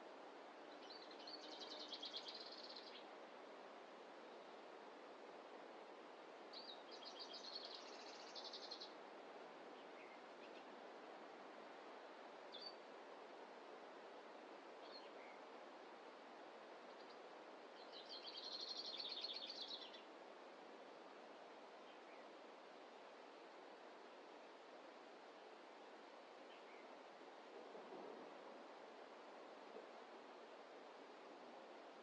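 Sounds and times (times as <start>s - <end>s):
faint rushing background noise: 0.0s - 32.0s.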